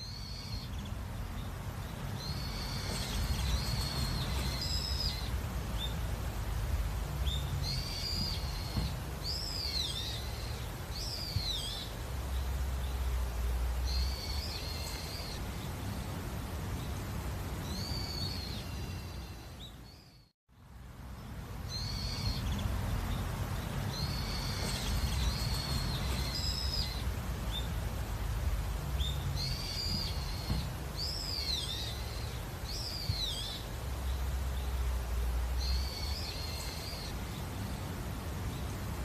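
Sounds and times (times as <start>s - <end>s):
birds chirping and whistling: 0.0s - 20.3s, 21.2s - 38.9s.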